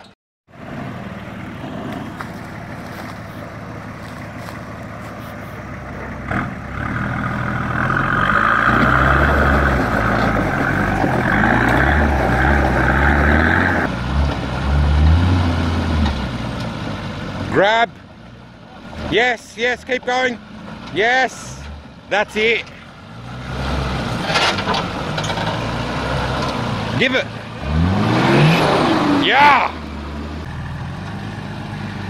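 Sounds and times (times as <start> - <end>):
vehicle engine working under load: 0.0 - 32.0.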